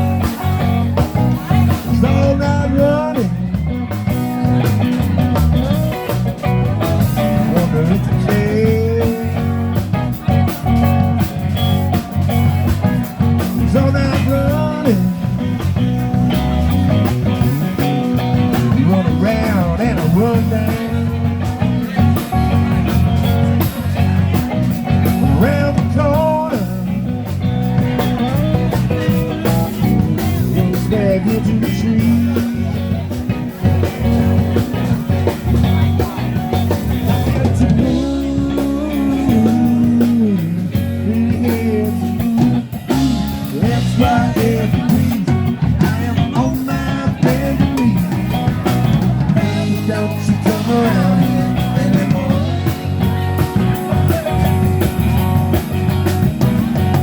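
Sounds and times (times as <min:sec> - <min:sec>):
guitar bending notes: 0:00.0 - 0:57.0
live blues-rock band: 0:00.0 - 0:57.0.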